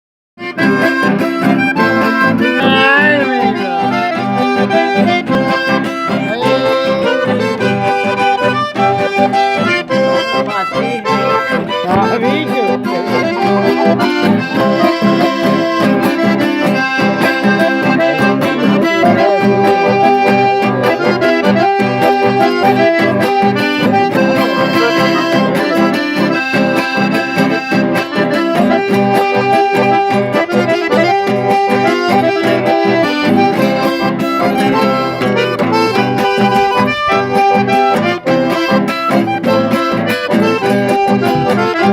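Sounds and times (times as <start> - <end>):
accordion music: 0.4 - 41.9.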